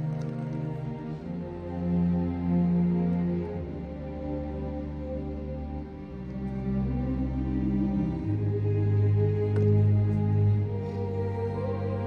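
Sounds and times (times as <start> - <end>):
calm ambient music: 0.0 - 12.0.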